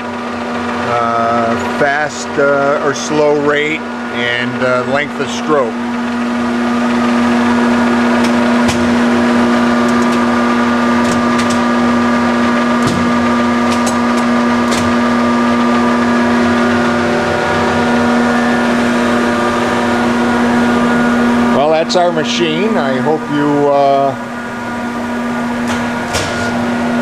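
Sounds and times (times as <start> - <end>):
grinder machine humming: 0.0 - 27.0.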